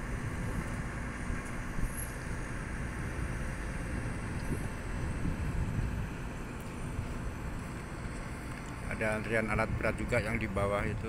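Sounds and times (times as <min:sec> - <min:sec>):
faint steady hum: 0:00.0 - 0:11.0
low rumble of engines and machinery: 0:00.0 - 0:11.0.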